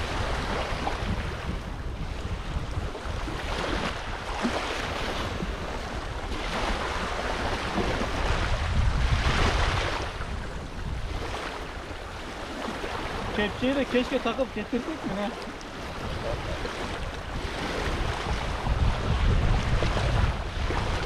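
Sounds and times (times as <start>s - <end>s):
small waves washing on shore: 0.0s - 21.0s
wind buffeting the microphone: 0.0s - 21.0s.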